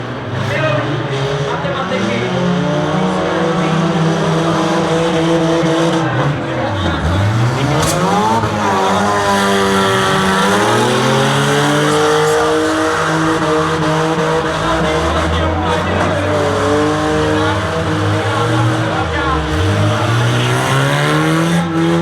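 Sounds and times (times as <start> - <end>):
car engines revving hard: 0.0 - 22.0.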